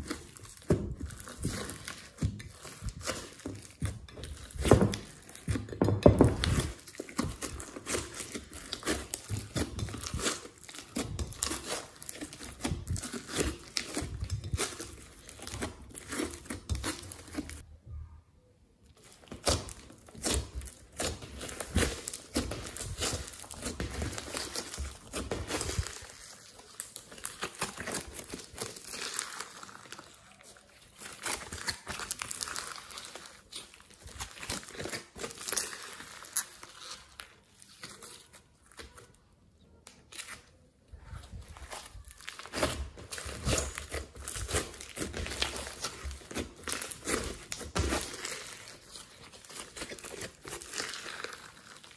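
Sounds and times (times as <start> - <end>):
fingers squishing slime: 0.0 - 17.6, 19.0 - 51.9.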